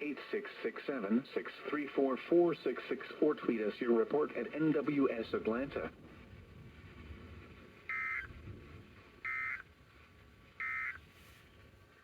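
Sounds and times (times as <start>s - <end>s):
faint radio hiss: 0.0s - 12.0s.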